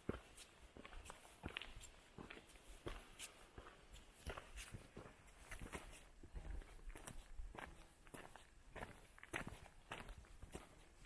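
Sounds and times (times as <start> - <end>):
footsteps on trail: 0.0 - 11.0.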